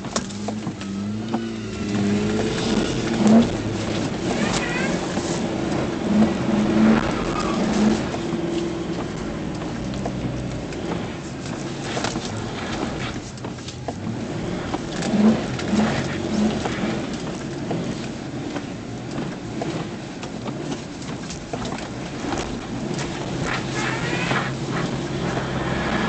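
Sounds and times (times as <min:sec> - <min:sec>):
truck engine running: 0:00.0 - 0:26.0
tyre and road noise: 0:00.0 - 0:26.0.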